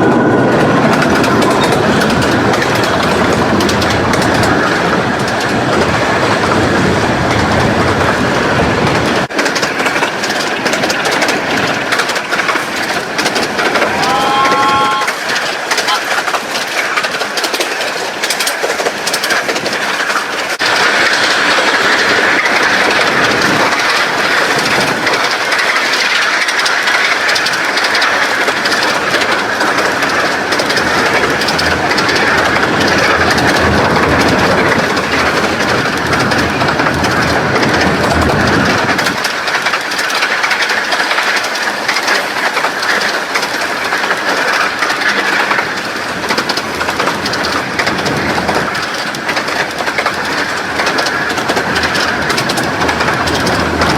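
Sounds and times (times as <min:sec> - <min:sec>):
train low rumble: 0:00.0 - 0:53.9
train wheels clattering on rails: 0:00.0 - 0:53.9.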